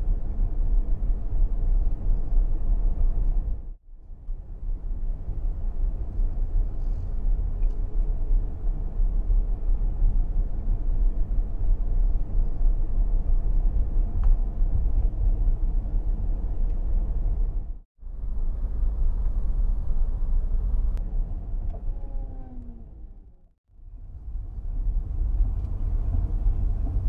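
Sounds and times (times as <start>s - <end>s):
low street rumble: 0.0s - 27.0s.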